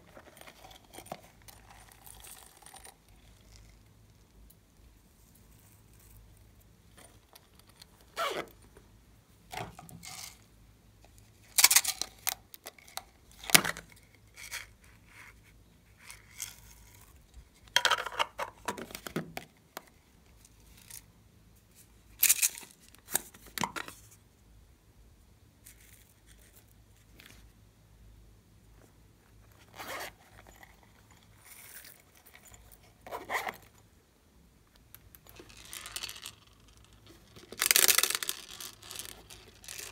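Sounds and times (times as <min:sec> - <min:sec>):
rustling and scraping handling noises: 0:00.0 - 0:04.0, 0:04.8 - 0:24.3, 0:25.6 - 0:27.6, 0:28.6 - 0:33.9, 0:35.2 - 0:39.9.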